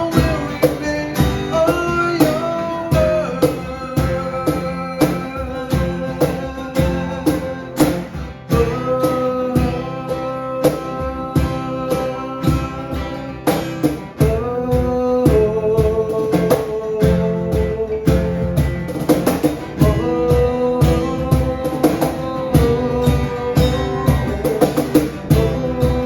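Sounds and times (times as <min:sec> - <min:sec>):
acoustic guitar: 0:00.0 - 0:26.0
steady beat: 0:00.0 - 0:26.0.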